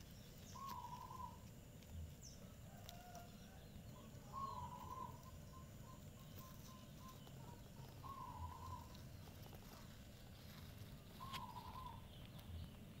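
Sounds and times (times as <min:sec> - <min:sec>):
distant bird warbling calls: 0:00.0 - 0:13.0.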